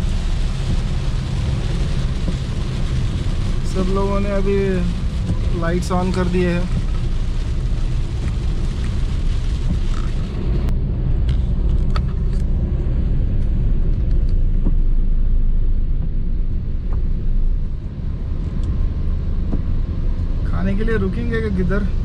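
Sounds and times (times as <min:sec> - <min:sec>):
car road and engine rumble: 0:00.0 - 0:22.0
rain on wet road: 0:00.0 - 0:22.0.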